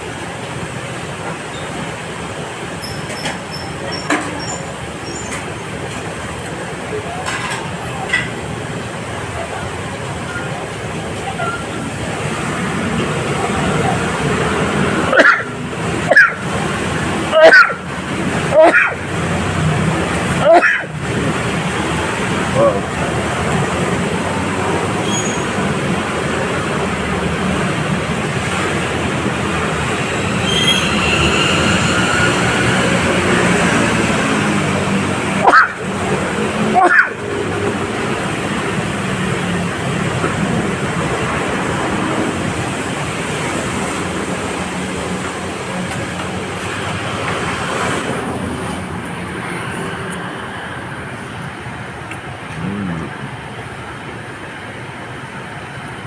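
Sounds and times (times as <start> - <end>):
traffic noise: 0.0 - 56.0
vehicle running noise: 0.0 - 56.0.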